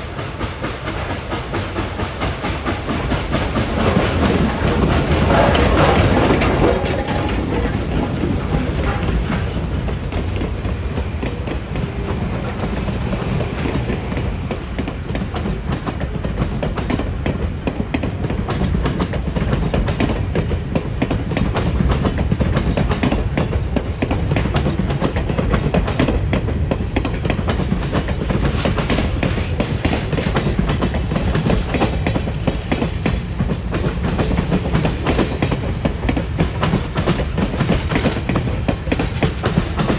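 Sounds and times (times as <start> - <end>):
train rumbling past: 0.0 - 39.9
wheels clicking over rail joints: 0.3 - 39.9.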